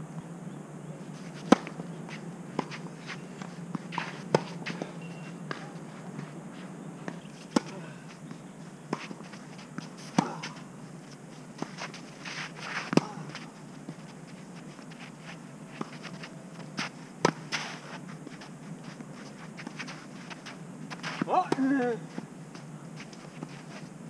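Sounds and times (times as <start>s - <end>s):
footsteps scuffing on clay: 1.2s - 24.0s.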